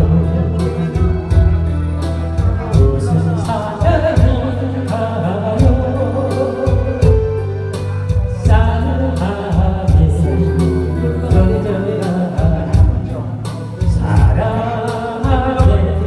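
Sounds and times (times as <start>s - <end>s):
backing track with drum beat: 0.0s - 16.0s
bass line: 0.0s - 16.0s
person singing: 0.0s - 16.0s.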